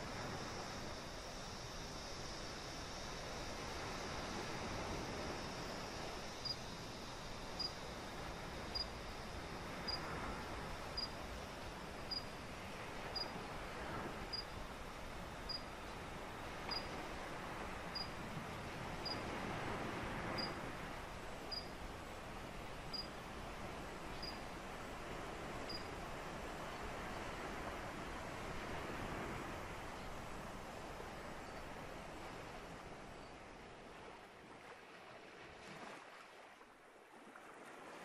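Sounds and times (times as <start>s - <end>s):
ocean surf on sandy beach: 0.0s - 38.0s.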